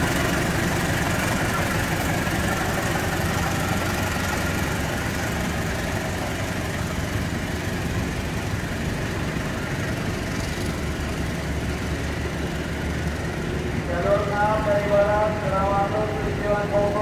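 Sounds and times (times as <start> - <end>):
train coaches rolling on rails: 0.0 - 17.0.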